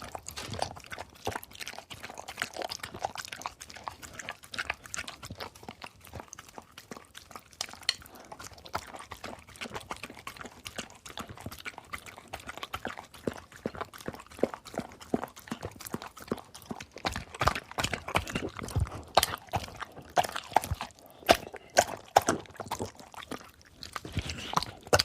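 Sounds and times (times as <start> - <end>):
dog eating and drinking: 0.0 - 25.0.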